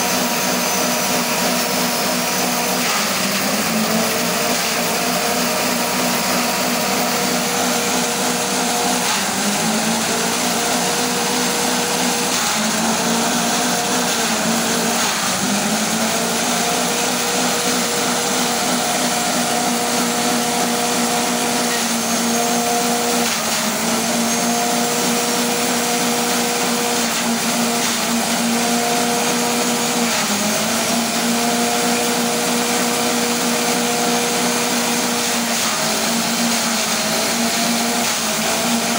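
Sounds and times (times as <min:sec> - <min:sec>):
forage chopper whirring: 0:00.0 - 0:38.9.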